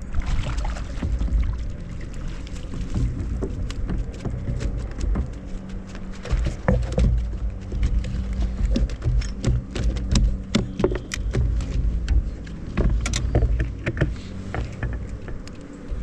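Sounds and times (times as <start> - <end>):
sharp clicks and knocks: 2.8 - 15.8.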